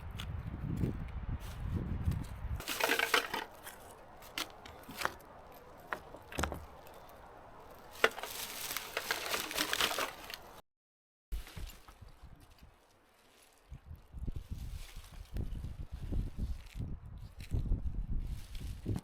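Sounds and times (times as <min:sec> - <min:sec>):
crinkling and rustling: 0:01.4 - 0:10.6, 0:11.4 - 0:17.6.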